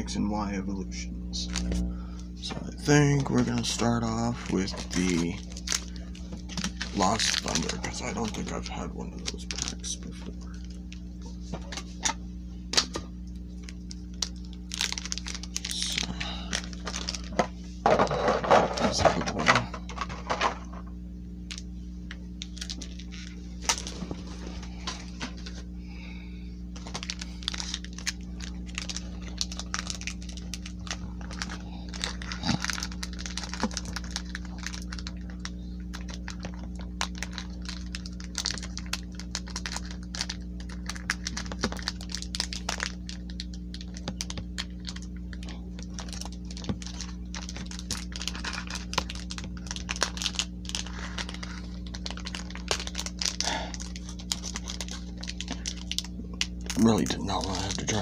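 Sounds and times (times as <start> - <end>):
low hum: 0.0 - 58.0
foil wrapper crinkling: 1.3 - 25.7, 26.7 - 58.0.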